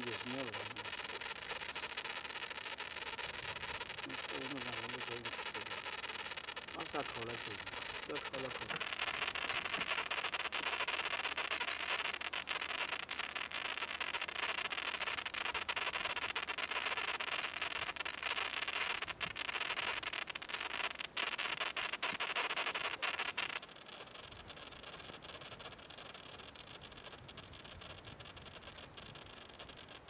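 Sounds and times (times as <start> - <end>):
high hissing noise: 0.0 - 28.9.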